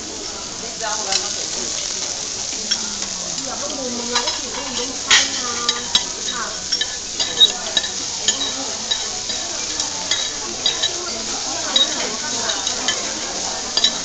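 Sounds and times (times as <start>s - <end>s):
food sizzling on hot plate: 0.0s - 14.0s
cutlery scraping and clinking: 2.5s - 14.0s.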